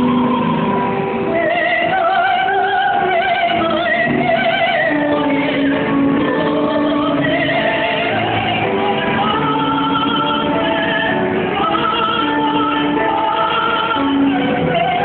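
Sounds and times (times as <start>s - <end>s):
operatic singing with vibrato: 0.0s - 15.0s.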